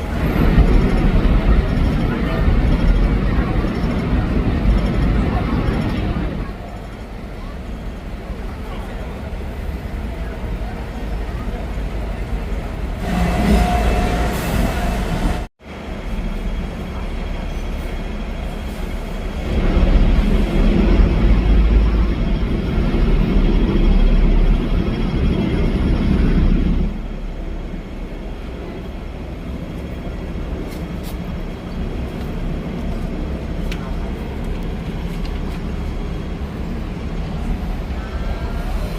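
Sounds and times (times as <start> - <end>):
tram wheels rumbling on rails: 0.0 - 38.9.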